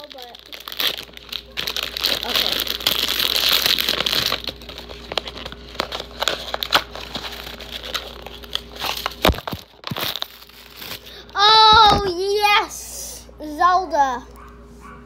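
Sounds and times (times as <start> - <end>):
plastic packet crinkling and tearing: 0.0 - 12.1.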